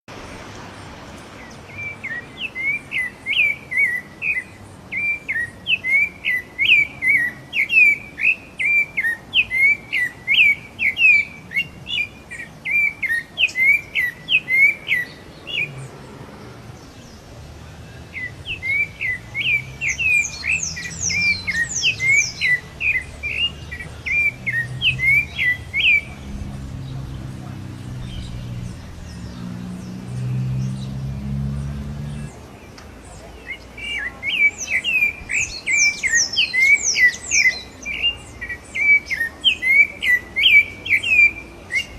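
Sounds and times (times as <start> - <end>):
songbird chirping: 0.1 - 41.9.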